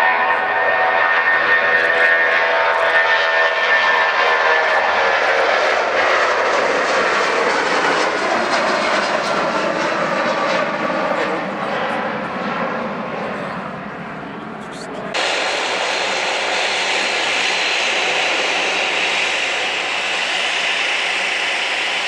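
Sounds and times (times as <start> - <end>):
airliner engines passing: 0.0 - 22.0.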